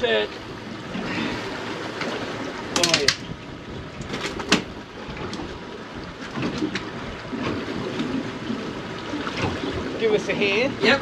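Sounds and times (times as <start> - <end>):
handling noises on a boat: 0.0 - 11.0
water splashing: 0.0 - 11.0.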